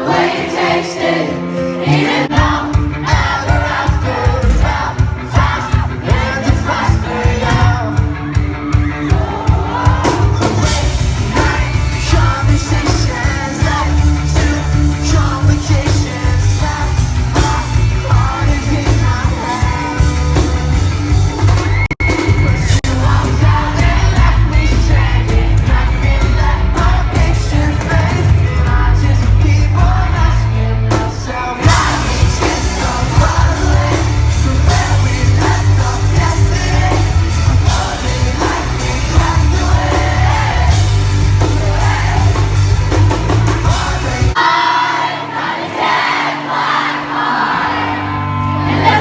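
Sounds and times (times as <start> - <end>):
crowd yelling and singing along: 0.0 - 49.0
live pop-rock band playing: 0.0 - 49.0.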